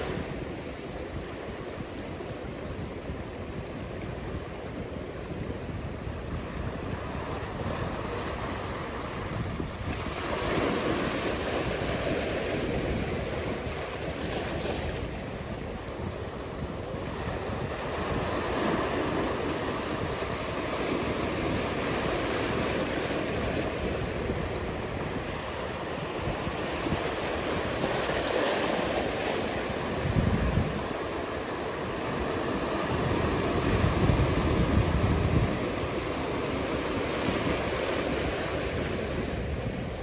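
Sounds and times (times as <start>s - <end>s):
ocean waves breaking: 0.0s - 40.0s.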